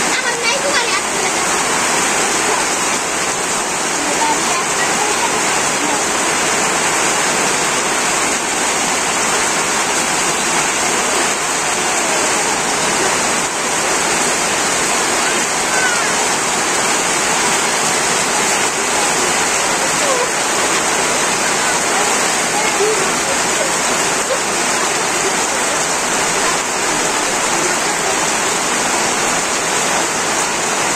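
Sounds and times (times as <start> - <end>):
heavy rain on tin roofs: 0.0 - 30.9.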